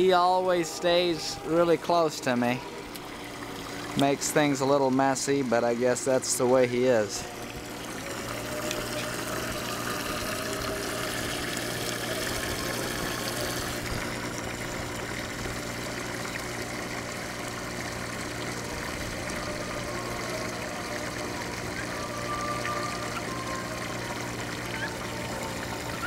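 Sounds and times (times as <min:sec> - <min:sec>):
pump humming: 0:00.0 - 0:26.0
water pouring into tank: 0:00.4 - 0:26.0.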